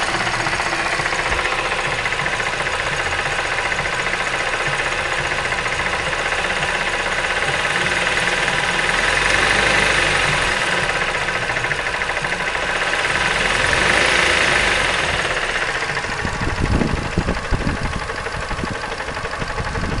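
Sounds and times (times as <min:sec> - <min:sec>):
car engine knocking: 0:00.0 - 0:20.0.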